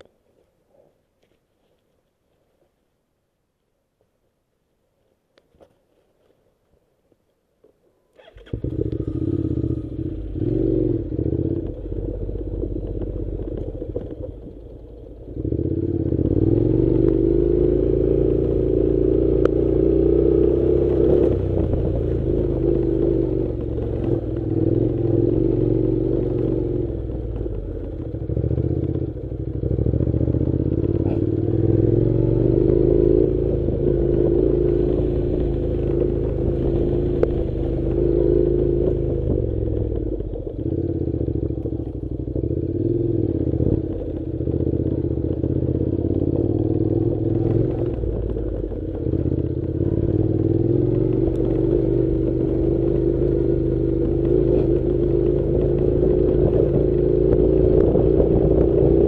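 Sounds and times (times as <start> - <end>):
motorcycle engine revving: 8.2 - 59.0.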